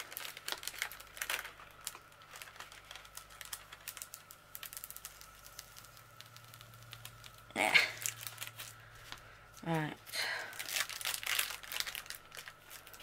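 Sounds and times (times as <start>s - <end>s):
plastic film crackling: 0.0s - 13.0s.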